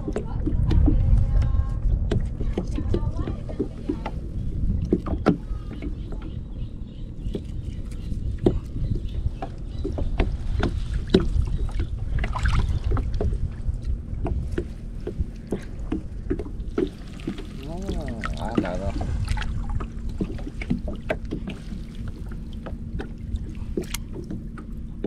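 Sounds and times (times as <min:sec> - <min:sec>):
low rumble of water and wind: 0:00.0 - 0:25.0.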